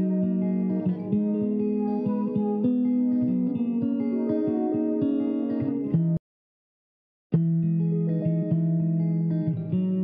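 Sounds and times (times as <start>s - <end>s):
plucked guitar notes: 0.0s - 6.2s, 7.4s - 10.0s.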